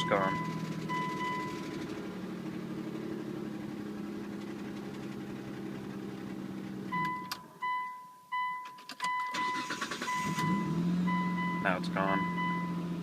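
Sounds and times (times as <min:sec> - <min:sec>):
car engine idling: 0:00.0 - 0:07.6, 0:09.3 - 0:13.0.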